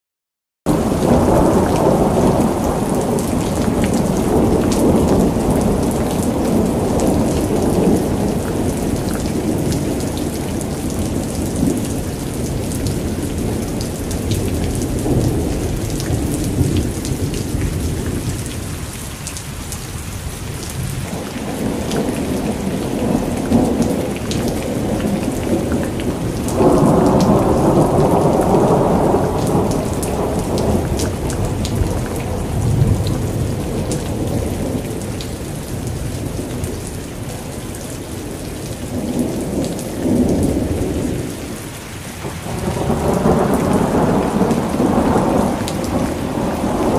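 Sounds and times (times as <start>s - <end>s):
heavy rain on car windscreen: 0.7s - 19.5s, 20.3s - 46.9s.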